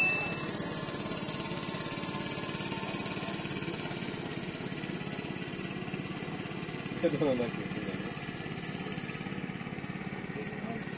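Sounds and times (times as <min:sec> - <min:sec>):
small engine chugging: 0:00.0 - 0:10.9.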